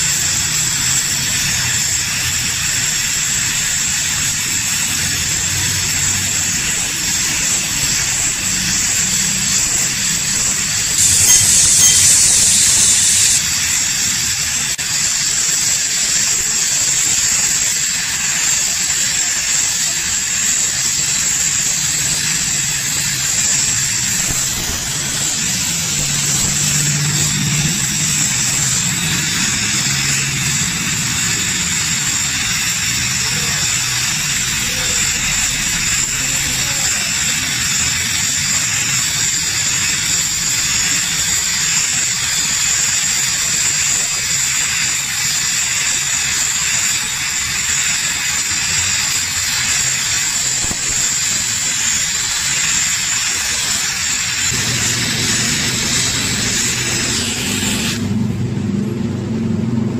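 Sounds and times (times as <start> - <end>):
welding torch hissing: 0.0 - 58.4.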